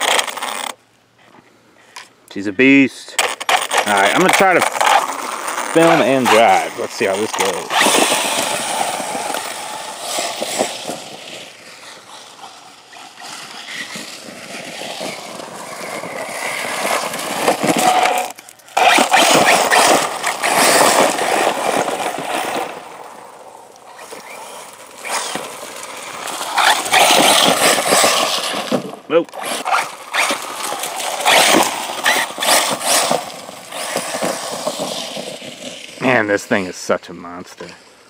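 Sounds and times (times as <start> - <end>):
tires scraping dirt: 0.0 - 38.0
electric motor whine: 4.6 - 35.3.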